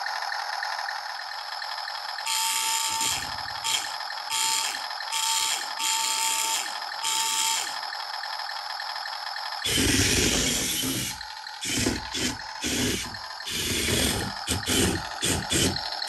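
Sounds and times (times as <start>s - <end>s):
toy tank electronic engine hum: 0.0s - 16.0s
motors whirring buzz: 1.4s - 16.0s.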